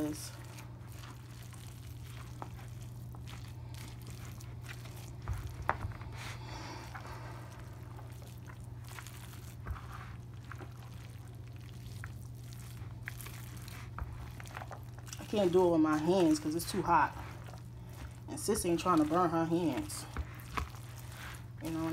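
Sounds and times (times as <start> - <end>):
spatula stirring rice in plastic bowl: 0.0 - 21.9
steady low hum: 0.0 - 21.9.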